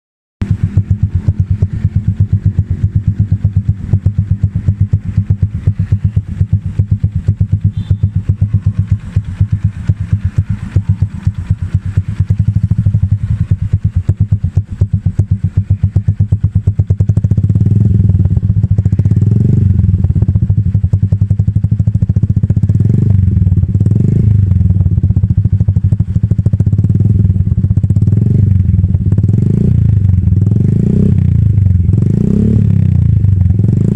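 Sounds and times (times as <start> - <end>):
engine throttle blips: 0.4 - 33.9
motorcycle engine idling: 0.4 - 33.9.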